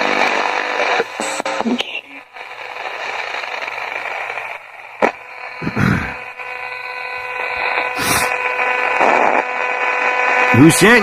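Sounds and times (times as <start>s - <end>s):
burst of broadcast sound: 0.0s - 11.0s
radio static hissing: 0.0s - 11.0s.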